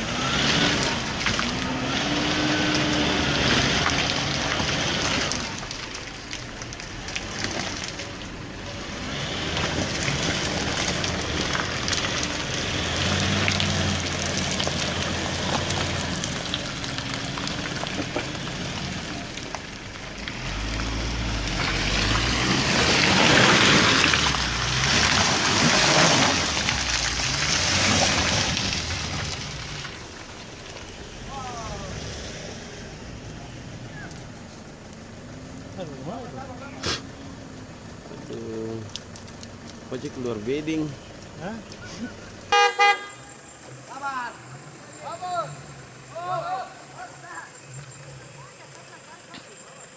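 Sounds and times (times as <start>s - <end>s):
truck engine working hard: 0.0s - 49.9s.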